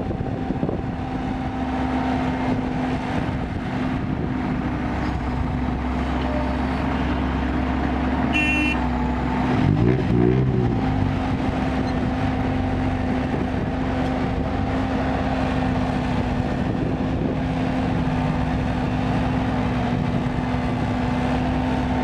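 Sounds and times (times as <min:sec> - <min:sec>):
excavator diesel engine droning: 0:00.0 - 0:22.0.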